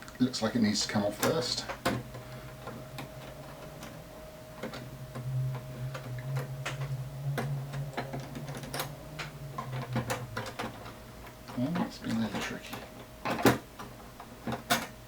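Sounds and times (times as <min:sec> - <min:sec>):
low hum: 0:01.6 - 0:14.8.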